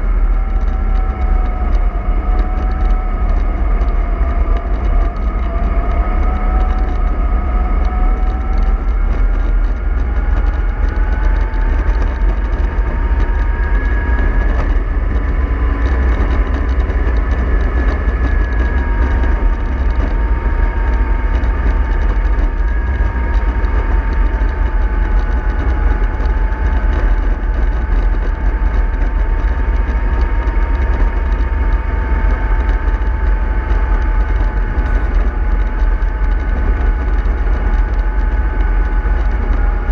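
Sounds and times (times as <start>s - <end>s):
low rumble: 0.0s - 39.9s.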